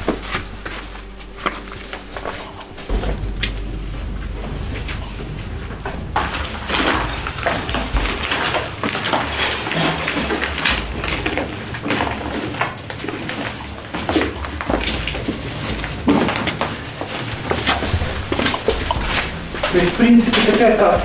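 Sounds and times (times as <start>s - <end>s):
footsteps crunching over debris: 0.0s - 21.0s
plastic coveralls rustling: 0.0s - 21.0s.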